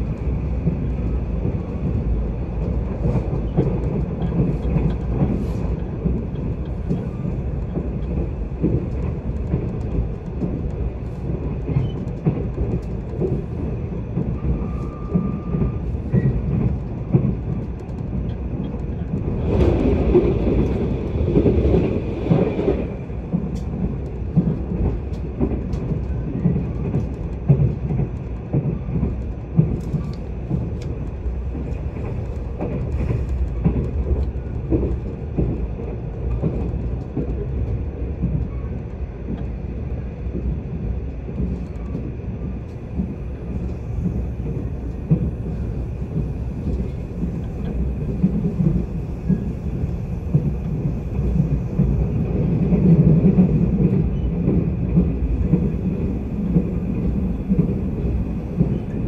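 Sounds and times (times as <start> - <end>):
passing train rushing: 0.0 - 38.4, 39.0 - 59.0
train wheels rumbling on rails: 0.0 - 59.0.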